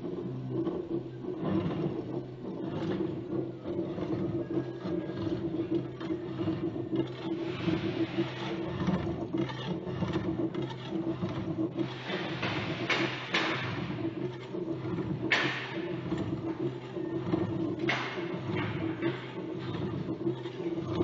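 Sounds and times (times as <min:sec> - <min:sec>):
steel-cutting machine humming: 0:02.9 - 0:21.0.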